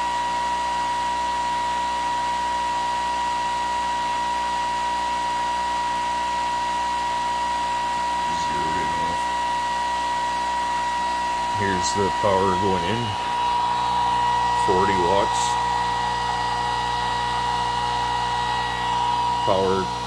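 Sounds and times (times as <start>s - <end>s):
pulse motor high-pitched whine: 0.0s - 20.0s.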